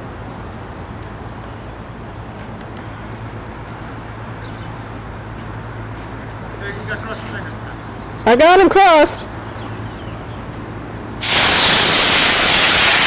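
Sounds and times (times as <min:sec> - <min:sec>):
constant low hum: 0:00.0 - 0:11.2.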